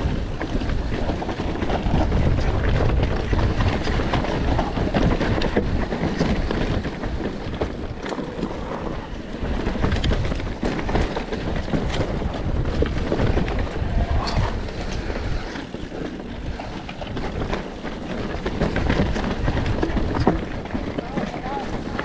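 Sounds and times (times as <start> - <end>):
motorbike engine rumble and rattle: 0.0 - 22.0
wind buffeting microphone: 0.0 - 22.0.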